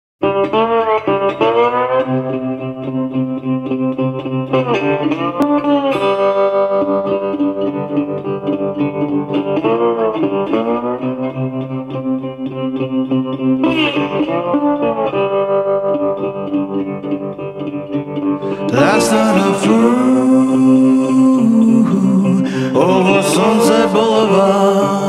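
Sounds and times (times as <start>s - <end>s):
guitar with sliding notes: 0.2s - 25.0s.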